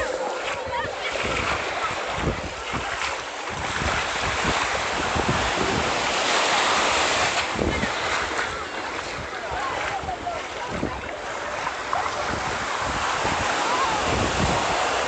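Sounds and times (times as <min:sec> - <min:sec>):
sea surf washing in: 0:00.0 - 0:15.0
wind buffeting microphone: 0:00.0 - 0:15.0.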